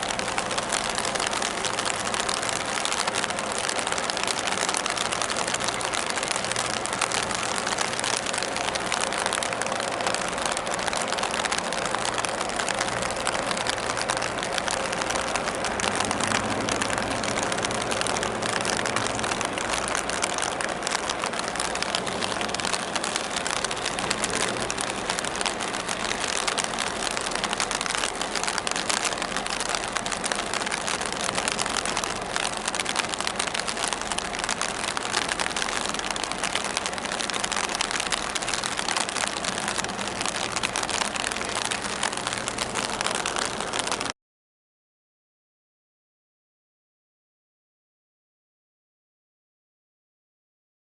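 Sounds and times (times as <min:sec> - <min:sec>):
faint low engine hum: 0:00.0 - 0:44.1
constant hiss: 0:00.0 - 0:44.2.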